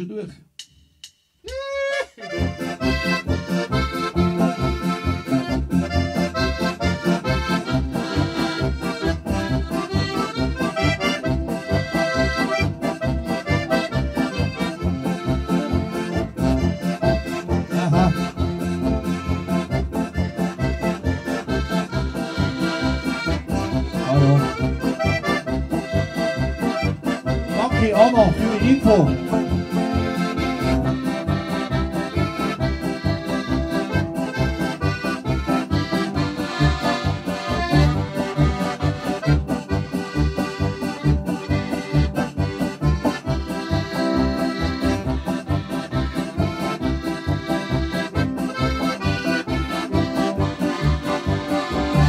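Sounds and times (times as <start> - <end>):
accordion polka: 1.4 - 52.0
electric guitar accompaniment: 1.5 - 52.0.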